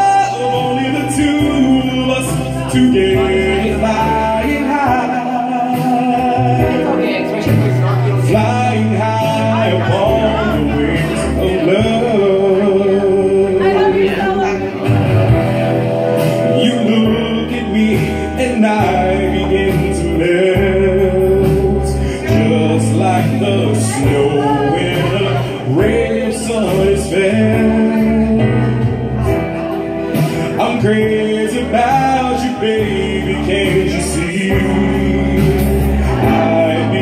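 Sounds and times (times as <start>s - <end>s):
man singing into microphone: 0.0s - 37.0s
recorded backing track: 0.0s - 37.0s.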